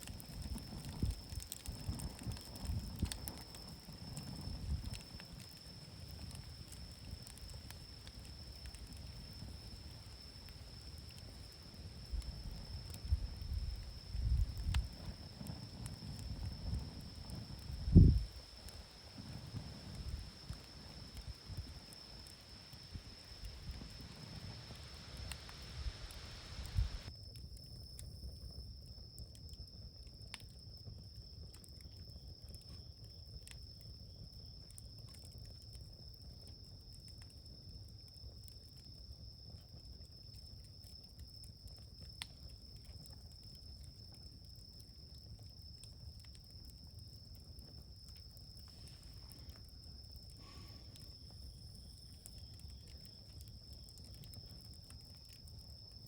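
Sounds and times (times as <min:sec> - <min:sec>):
high-pitched insect trill: 0:00.4 - 0:56.0.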